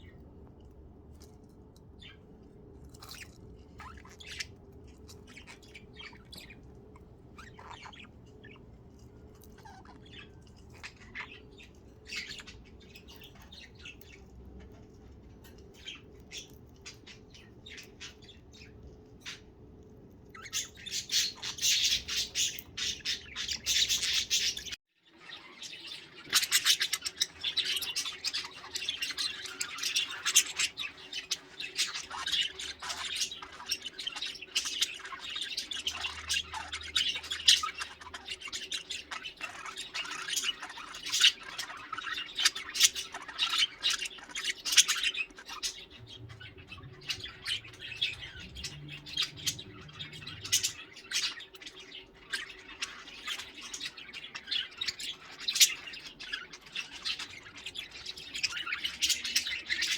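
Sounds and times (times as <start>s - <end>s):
budgerigars chirping and chattering: 1.2s - 59.9s.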